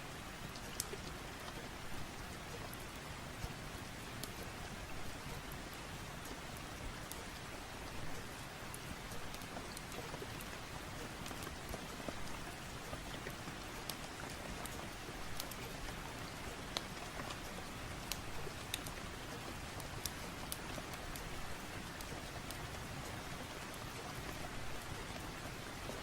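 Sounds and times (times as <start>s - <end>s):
rain falling: 0.0s - 26.0s
sharp clicks of raindrops: 0.0s - 26.0s.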